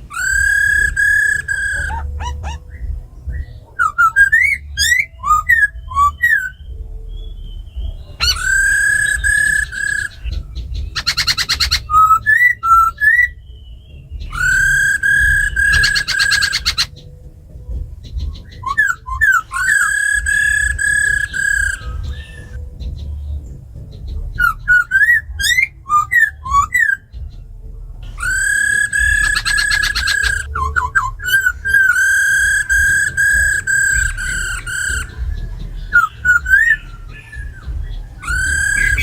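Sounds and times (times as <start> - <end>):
laughingthrushes whistling song: 0.0 - 39.0
rattling bird calls: 0.0 - 39.0.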